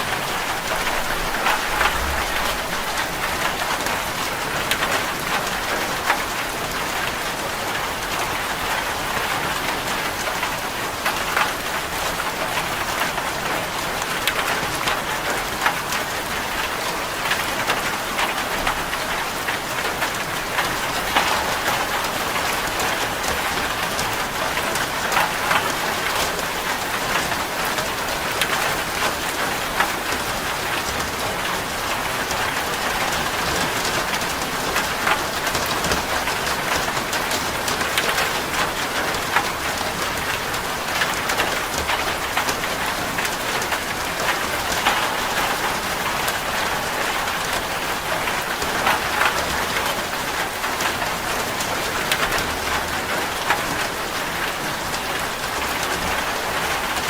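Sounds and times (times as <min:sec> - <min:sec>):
rain drumming on metal roof: 0:00.0 - 0:57.0.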